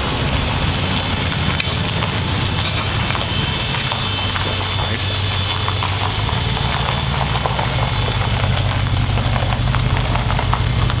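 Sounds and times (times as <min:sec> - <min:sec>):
car engine driving slowly past: 0:00.0 - 0:11.0.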